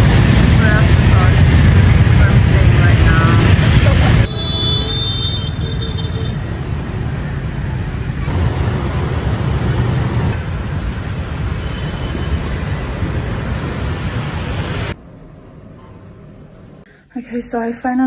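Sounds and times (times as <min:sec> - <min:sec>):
rumble of passing vehicles: 0:00.0 - 0:16.8.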